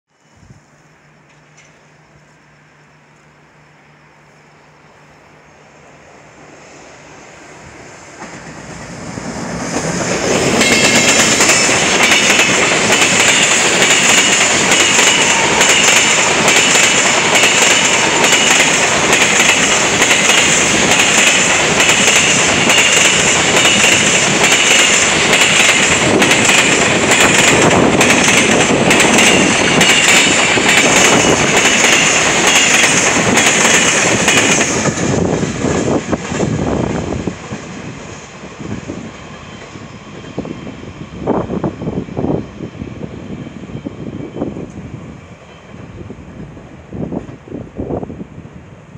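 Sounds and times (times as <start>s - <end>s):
locomotive rumble: 0.8s - 48.9s.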